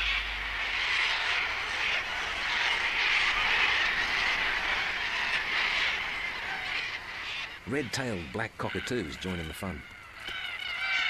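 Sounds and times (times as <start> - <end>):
cockatoo flock calling: 0.0 - 11.0.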